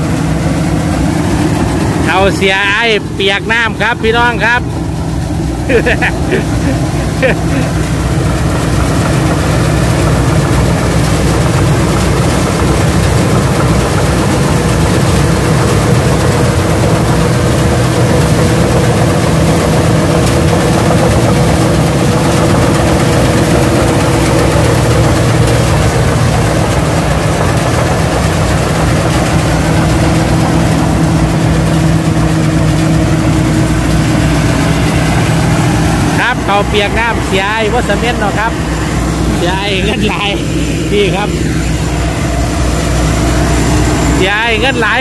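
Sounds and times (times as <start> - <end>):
combine harvester engine drone: 0.0 - 45.0
working machinery noise: 0.0 - 45.0.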